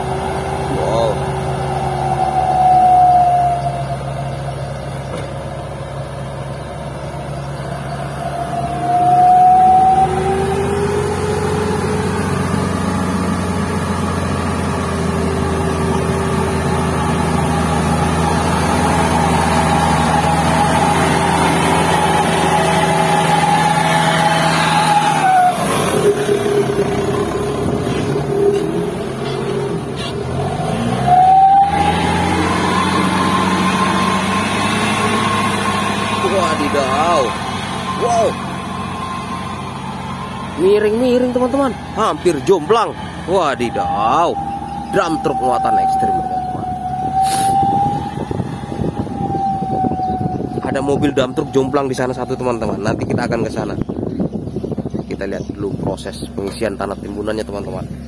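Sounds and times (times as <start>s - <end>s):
diesel truck engine revving: 0.0s - 58.0s.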